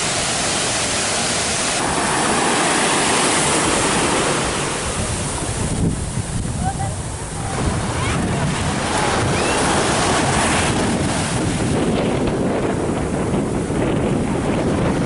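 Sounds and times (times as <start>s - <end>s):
waves breaking on beach: 0.0s - 15.0s
wind buffeting microphone: 0.0s - 15.0s.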